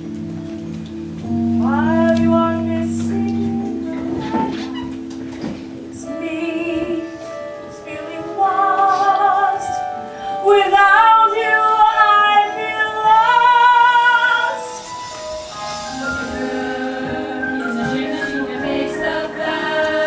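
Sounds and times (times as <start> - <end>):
instrumental accompaniment: 0.0 - 20.0
woman singing: 1.6 - 4.9, 5.9 - 14.8, 15.9 - 20.0.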